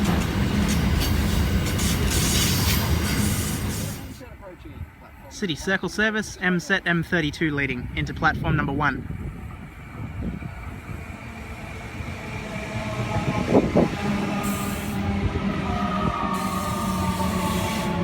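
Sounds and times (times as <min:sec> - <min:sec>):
train wheels rumbling: 0:00.0 - 0:05.1, 0:07.1 - 0:18.0.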